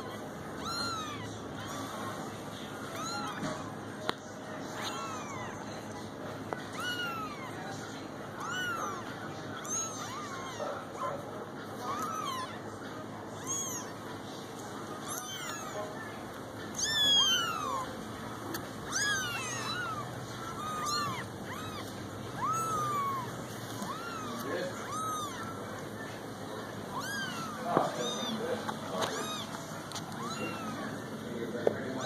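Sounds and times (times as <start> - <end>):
kittens mewing: 0.0 - 32.0.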